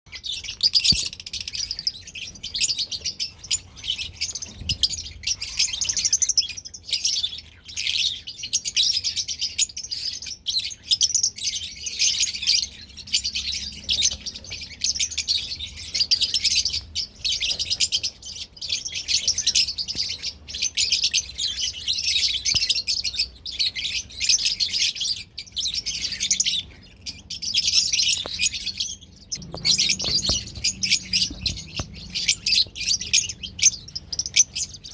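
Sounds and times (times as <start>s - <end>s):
parrots chirping and chattering: 0.1s - 34.9s.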